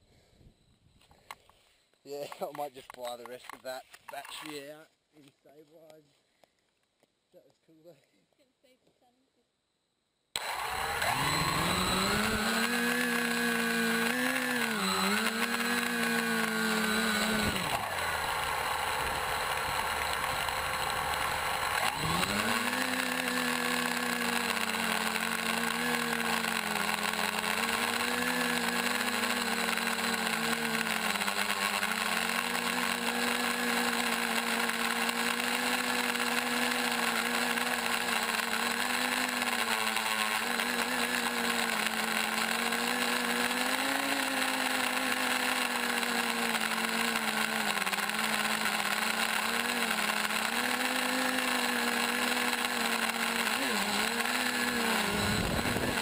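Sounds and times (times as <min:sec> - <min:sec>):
drone motors and propellers whining: 0:10.4 - 0:56.0.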